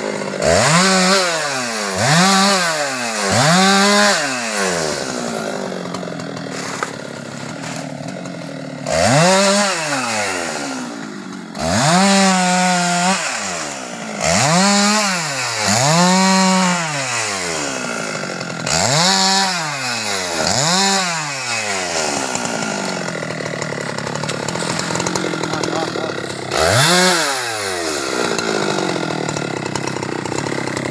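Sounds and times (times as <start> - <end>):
chainsaw idling and revving: 0.0 - 30.9.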